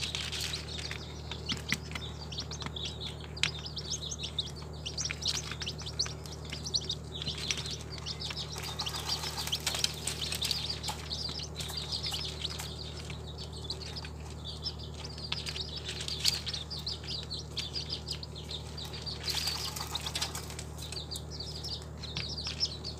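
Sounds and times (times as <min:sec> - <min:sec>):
small birds chirping and twittering: 0:00.0 - 0:22.9
steady low hum: 0:00.0 - 0:22.9.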